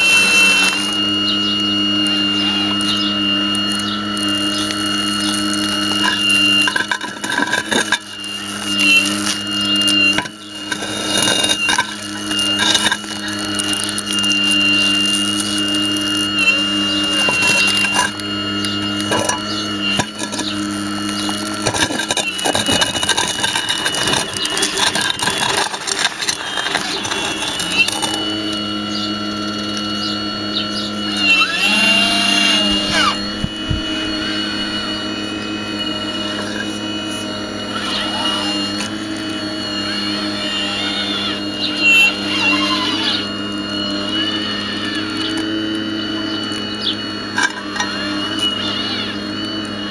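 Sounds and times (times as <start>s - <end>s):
hydraulic pump whining: 0.0s - 49.9s.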